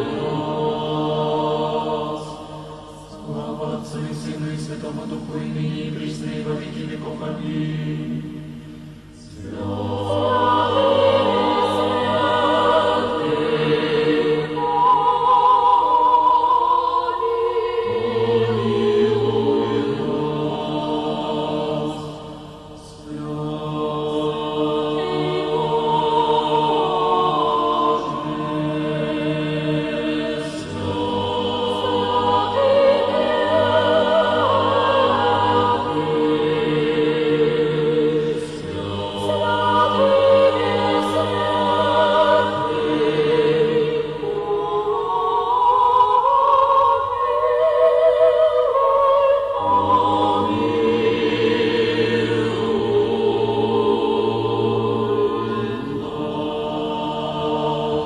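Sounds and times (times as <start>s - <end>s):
choir singing slow chant: 0.0s - 58.0s.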